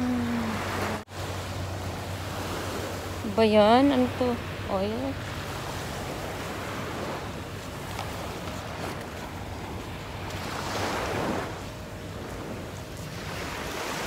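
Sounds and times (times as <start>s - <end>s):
small waves washing onto sand: 0.0s - 14.0s.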